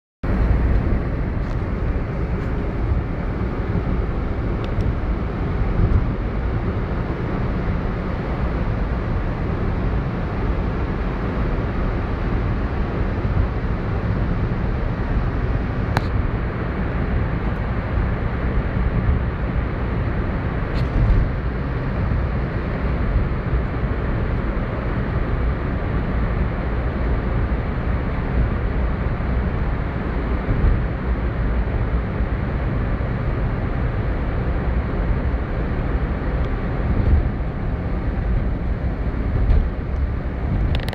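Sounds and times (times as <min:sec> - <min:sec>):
car interior driving rumble: 0:00.2 - 0:40.9.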